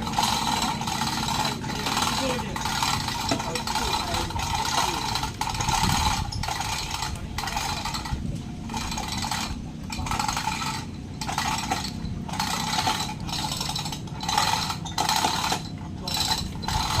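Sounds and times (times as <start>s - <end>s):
hand tool rasping on wood: 0.0s - 17.0s
steady low rumble: 0.0s - 17.0s.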